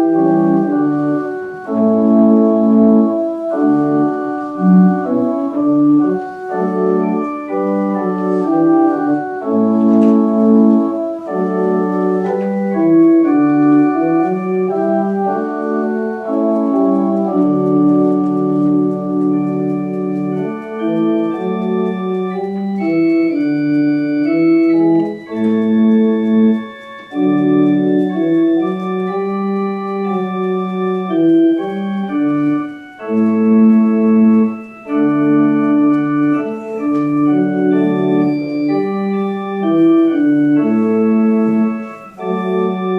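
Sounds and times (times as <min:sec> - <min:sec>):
organ playing slow chords: 0:00.0 - 0:42.9.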